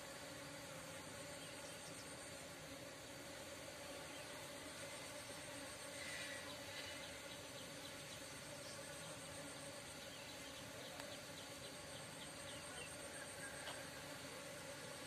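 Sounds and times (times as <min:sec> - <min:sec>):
high insect trill: 0:00.0 - 0:15.0
honeybees buzzing: 0:00.0 - 0:15.0.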